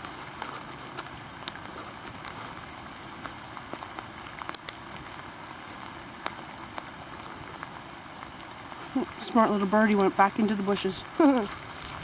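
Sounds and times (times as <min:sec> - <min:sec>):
raindrops ticking close by: 0:00.0 - 0:12.0
steady rain hiss: 0:00.0 - 0:12.0.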